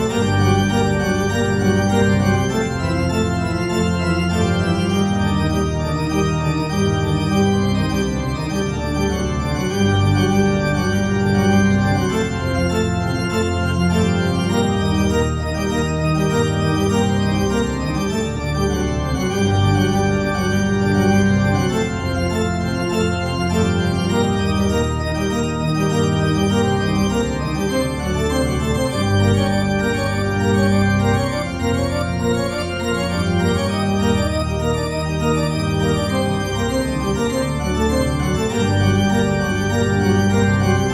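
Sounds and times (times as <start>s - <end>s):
organ playing sustained chords: 0.0s - 40.9s.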